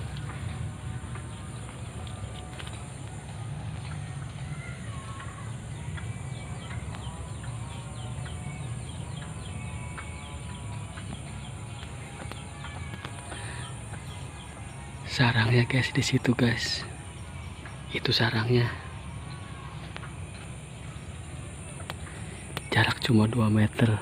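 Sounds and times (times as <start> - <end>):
birds calling: 0.0 - 24.0
high-pitched hum: 0.0 - 24.0.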